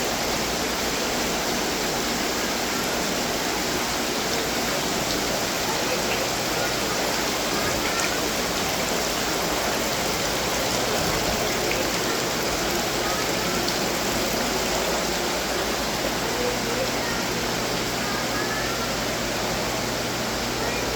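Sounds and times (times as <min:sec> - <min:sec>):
fountain water splashing: 0:00.0 - 0:20.9.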